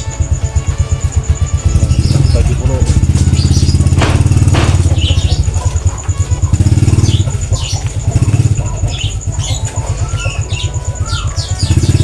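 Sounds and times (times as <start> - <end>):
small engine running: 0.0 - 12.0
songbirds chirping: 0.0 - 12.0.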